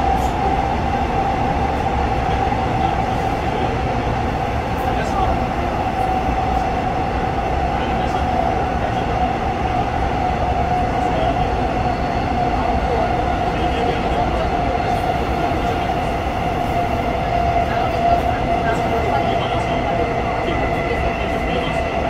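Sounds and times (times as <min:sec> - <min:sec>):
mid-pitched train whine: 0:00.0 - 0:22.0
train wheels rumbling on rails: 0:00.0 - 0:22.0.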